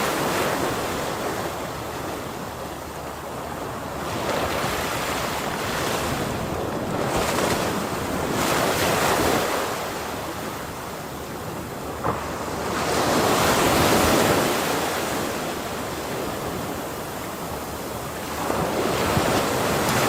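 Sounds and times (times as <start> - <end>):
ocean waves crashing on shore: 0.0 - 20.0.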